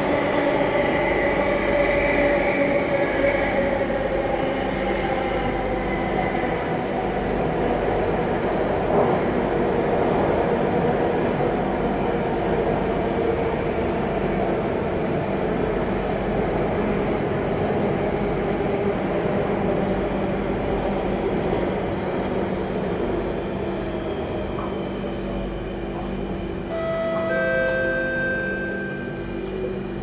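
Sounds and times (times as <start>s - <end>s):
train wheels rumbling on rail: 0.0s - 27.9s.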